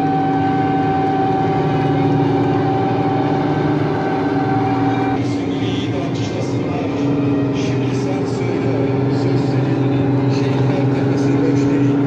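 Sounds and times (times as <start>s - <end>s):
high whining tone: 0.0s - 12.0s
tracked vehicle engine drone: 0.0s - 12.0s.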